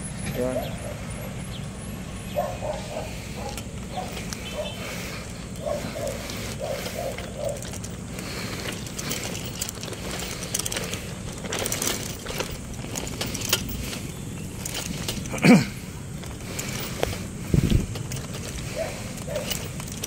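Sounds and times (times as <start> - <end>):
steady low rumble: 0.0 - 20.0
scattered small clicks and knocks: 3.0 - 15.4, 16.1 - 20.0.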